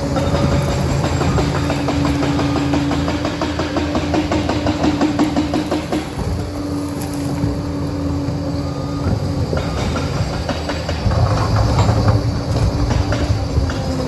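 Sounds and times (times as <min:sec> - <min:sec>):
diesel engine humming: 0:00.0 - 0:14.0
steel tracks clanking: 0:00.0 - 0:14.0.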